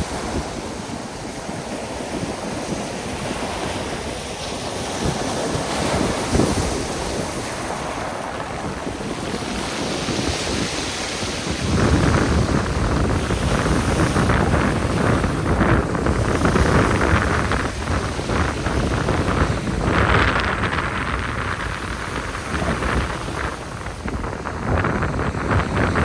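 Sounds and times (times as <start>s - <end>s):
sea surf washing in: 0.0s - 26.0s
wind buffeting microphone: 0.0s - 26.0s.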